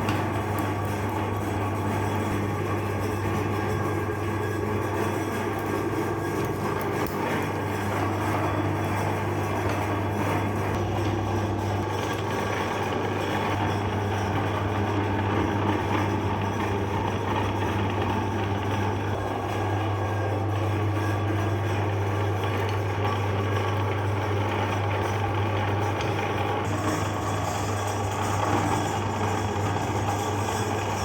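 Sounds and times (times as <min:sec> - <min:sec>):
electric meat grinder humming: 0:00.0 - 0:31.0.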